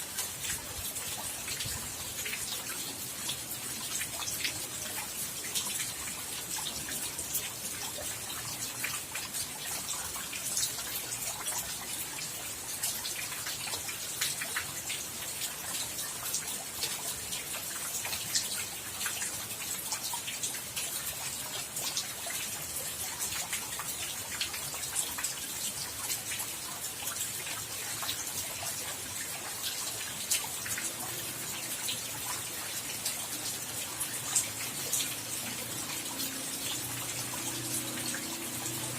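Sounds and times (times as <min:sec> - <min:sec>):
rain falling: 0:00.0 - 0:38.9
raindrops ticking: 0:00.1 - 0:38.9.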